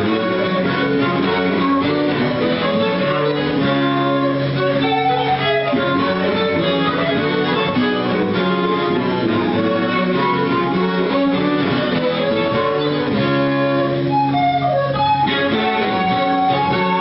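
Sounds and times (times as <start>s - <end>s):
string ensemble playing a jig: 0.0s - 17.0s.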